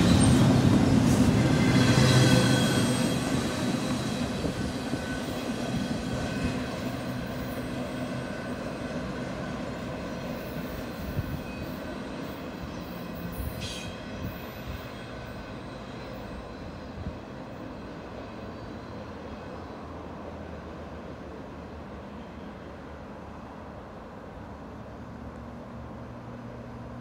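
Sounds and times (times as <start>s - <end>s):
train wheels rumbling on rails: 0.0s - 22.2s.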